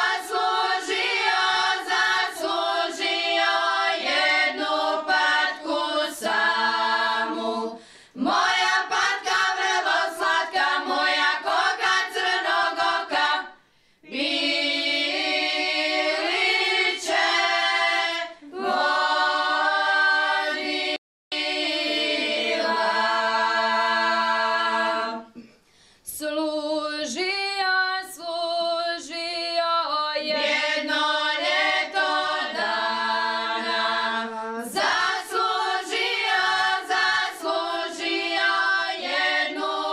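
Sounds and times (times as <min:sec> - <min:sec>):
women singing unaccompanied: 0:00.0 - 0:25.5, 0:26.1 - 0:39.9.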